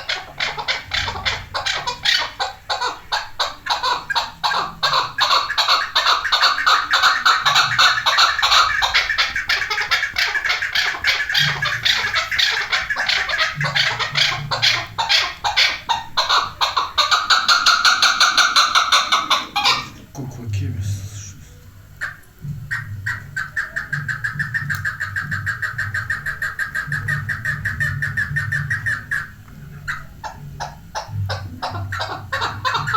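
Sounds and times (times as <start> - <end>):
partridges calling harsh chucks: 0.0 - 20.1, 20.8 - 32.9.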